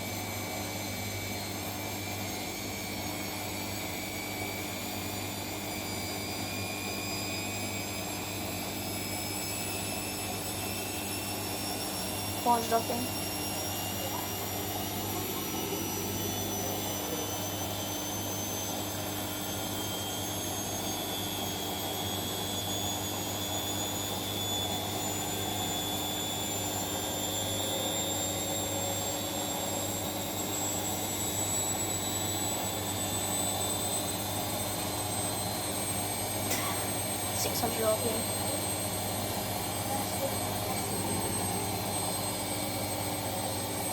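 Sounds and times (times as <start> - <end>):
washing machine spinning drum: 0.0 - 43.9.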